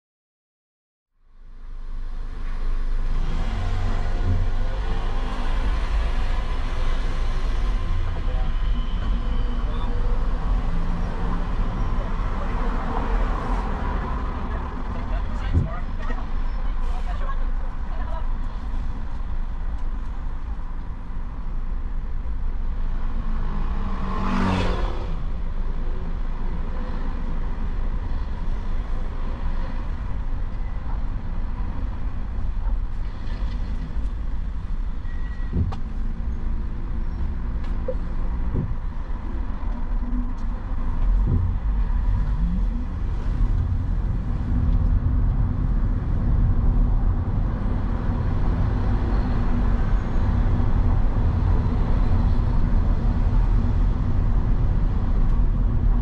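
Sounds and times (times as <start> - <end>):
road vehicle rumbling in traffic: 1.1 - 56.0.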